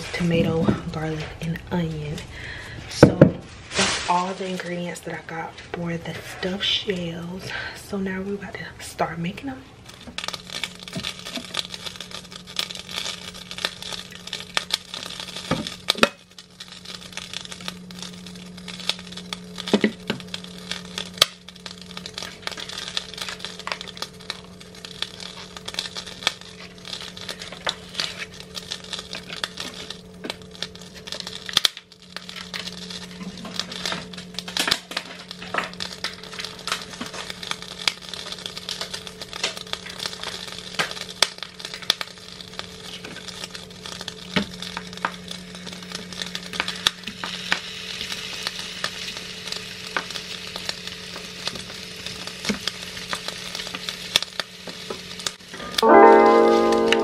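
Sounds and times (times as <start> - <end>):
hot oil crackling in a pan: 0.0 - 57.0
steady low hum: 0.0 - 57.0.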